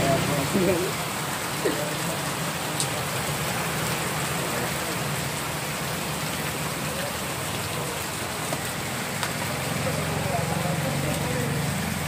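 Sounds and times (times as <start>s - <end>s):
rain falling on wet street: 0.0s - 12.0s.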